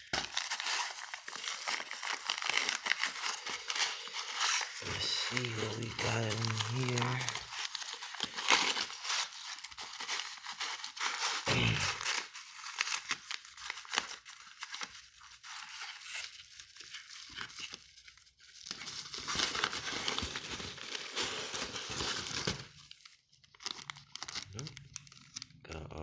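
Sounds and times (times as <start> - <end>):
packaging torn and crinkled: 0.0 - 25.6.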